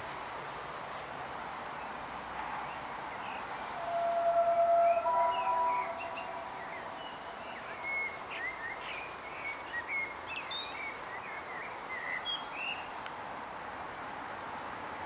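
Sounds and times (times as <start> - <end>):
songbirds chirping: 0.0 - 13.2
outdoor background hiss: 0.0 - 15.0.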